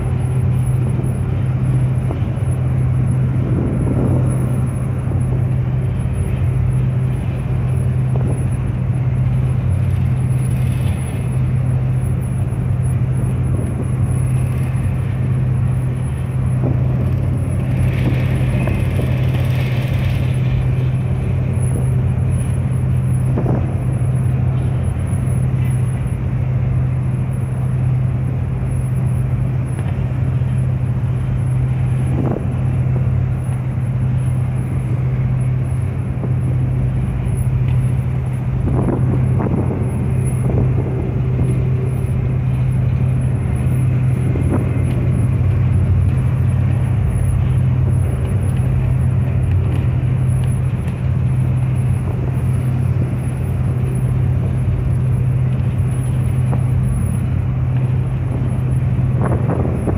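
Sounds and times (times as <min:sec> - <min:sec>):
propeller wake rushing: 0:00.0 - 0:59.9
ship engines humming: 0:00.0 - 0:59.9.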